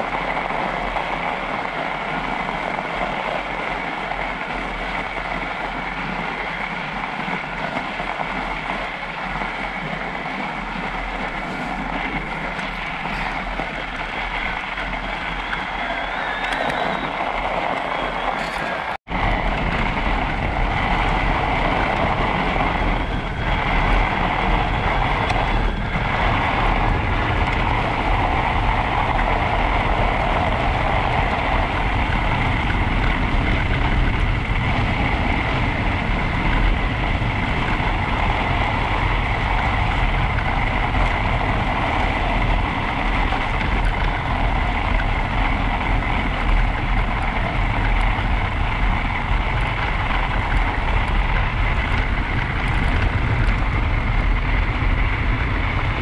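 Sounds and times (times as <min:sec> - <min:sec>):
thin steady whine: 0:00.0 - 0:56.0
tyres rolling over snow: 0:00.0 - 0:56.0
wind rush on microphone: 0:00.0 - 0:56.0.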